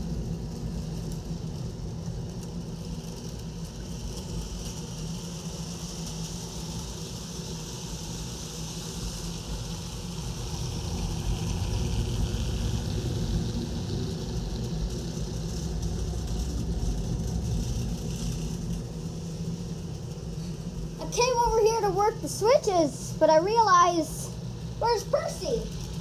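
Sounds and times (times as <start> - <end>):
model train motor hum: 0.0 - 26.0
wheels rumbling on track: 0.0 - 26.0.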